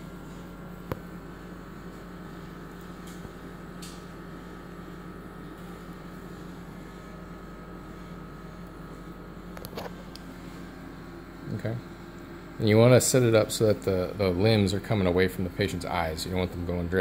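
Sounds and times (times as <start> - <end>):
hospital equipment humming: 0.0 - 17.0.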